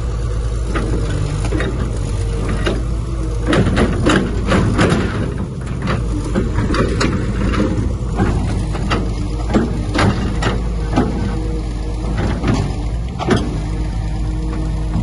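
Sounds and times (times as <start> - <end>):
diesel machinery engine hum: 0.0 - 15.0.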